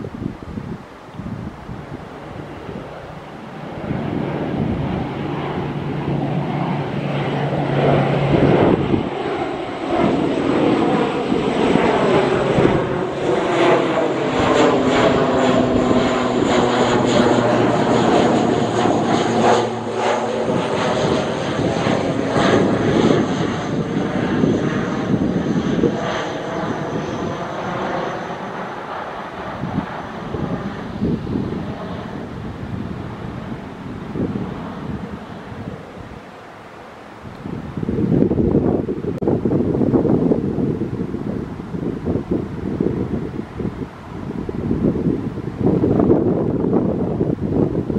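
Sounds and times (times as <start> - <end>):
turboprop airliner flying overhead: 0.0 - 47.9.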